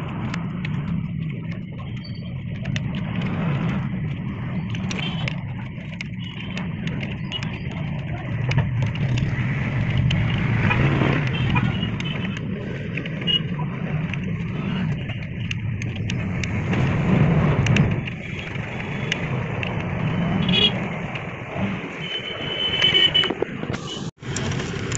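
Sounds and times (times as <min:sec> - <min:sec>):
motor vehicle rumbling: 0:00.0 - 0:24.9.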